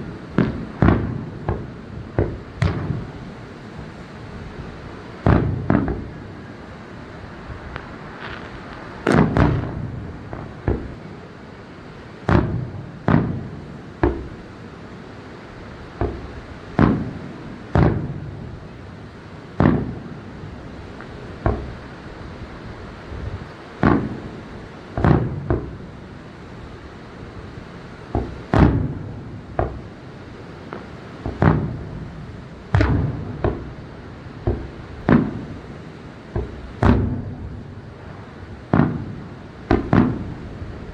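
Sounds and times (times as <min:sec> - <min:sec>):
fireworks booming: 0:00.0 - 0:40.9.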